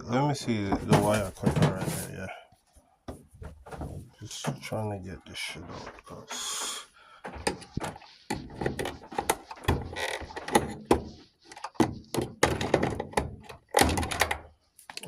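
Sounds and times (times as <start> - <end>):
knocks and rattles of hand work: 0.4 - 2.2, 3.0 - 15.0.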